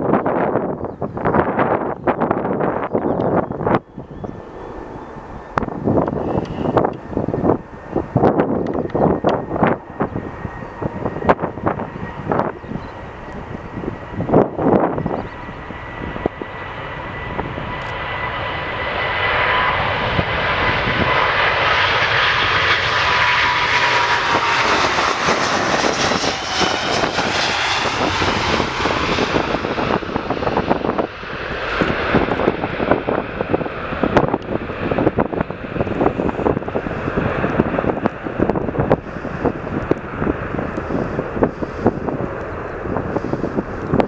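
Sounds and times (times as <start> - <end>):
jet engines passing by: 0.0 - 44.0
wind buffeting microphone: 0.0 - 44.0.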